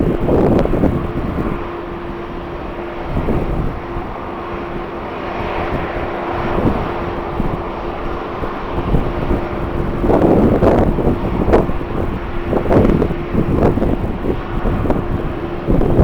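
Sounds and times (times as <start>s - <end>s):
airliner engines humming: 0.0s - 16.0s
wind buffeting microphone: 0.0s - 16.0s.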